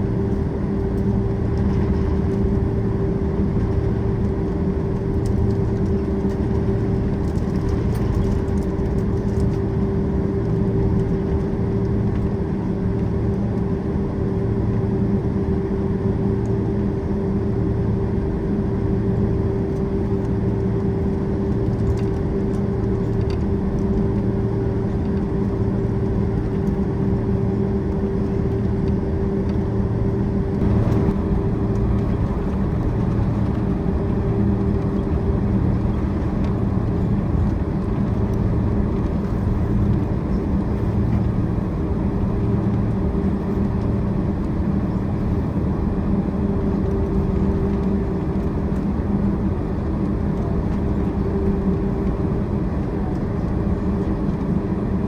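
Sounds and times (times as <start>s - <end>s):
jet engines humming and whining: 0.0s - 55.0s.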